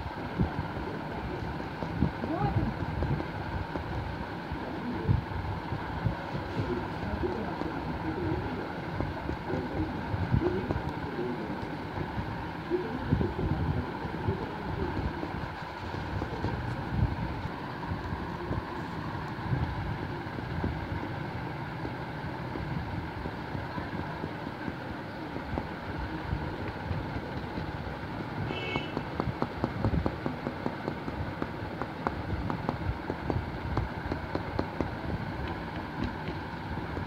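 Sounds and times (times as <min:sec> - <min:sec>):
cotton buds tapping on paper: 0:00.3 - 0:37.0.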